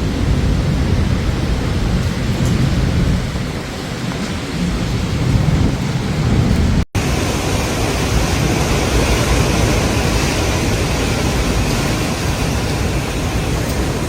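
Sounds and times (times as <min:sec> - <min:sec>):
heavy rain: 0:00.0 - 0:14.0
strong wind: 0:00.0 - 0:14.0.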